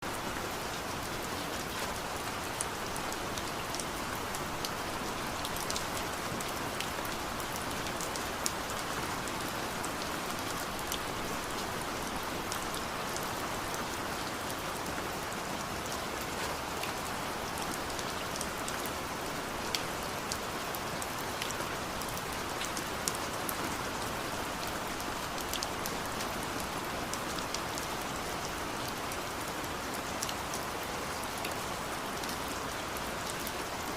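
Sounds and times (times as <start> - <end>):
raindrops ticking on surfaces: 0.0 - 33.9
steady rain hiss: 0.0 - 33.9.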